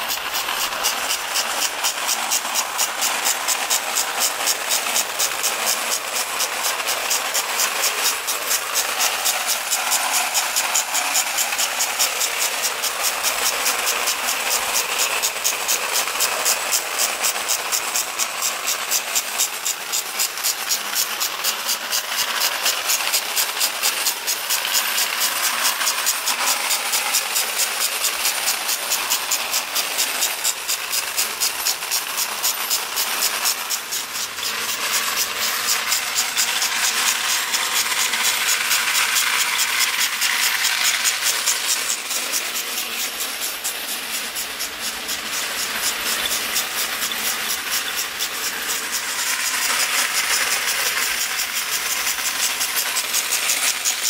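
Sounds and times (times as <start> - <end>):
toy train whirring and clicking: 0.0 - 54.0.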